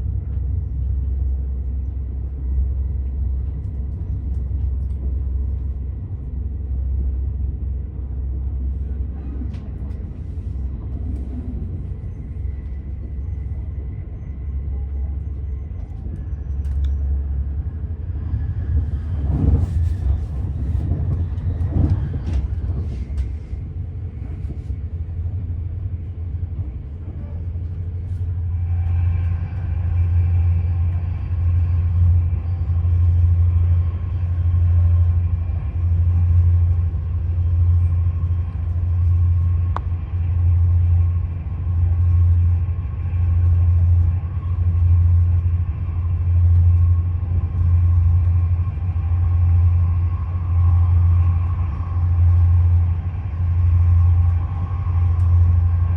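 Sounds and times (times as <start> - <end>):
train rumble from inside carriage: 0.0 - 55.9.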